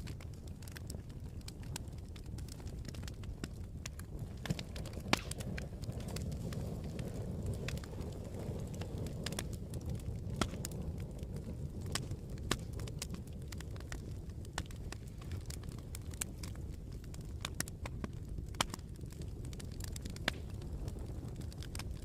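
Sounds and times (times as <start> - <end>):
burning wood crackling and popping: 0.0 - 22.0
campfire low rumble: 0.0 - 22.0.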